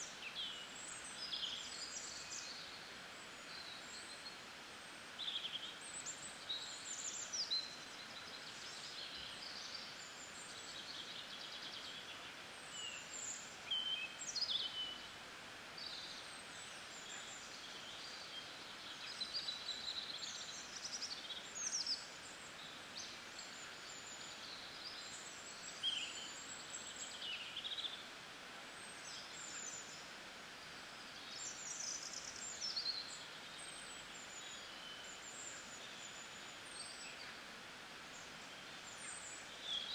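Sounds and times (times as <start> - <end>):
small birds chirping: 0.0 - 39.9
steady hiss: 0.0 - 39.9.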